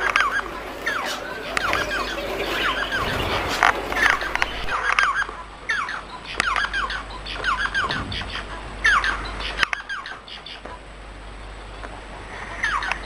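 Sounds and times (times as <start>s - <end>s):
finch singing gliding notes: 0.0s - 10.8s
soft bird chattering: 0.0s - 10.9s.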